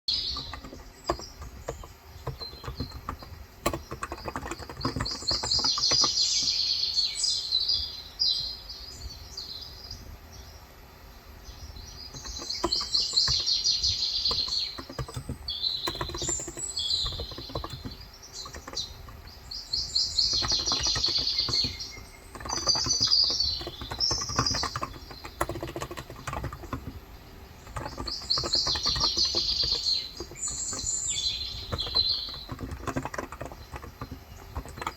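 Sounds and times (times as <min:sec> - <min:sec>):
birds chirping: 0:00.0 - 0:34.9
typing on a keyboard: 0:00.1 - 0:06.7, 0:12.1 - 0:34.9.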